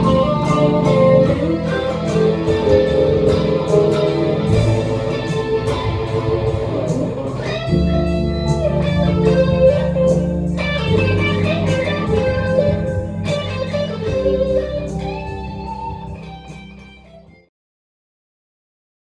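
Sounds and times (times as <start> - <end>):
steady ticking beat: 0.0 - 16.4
electric guitar blues playing: 0.0 - 17.5
sustained bass notes: 0.0 - 17.5.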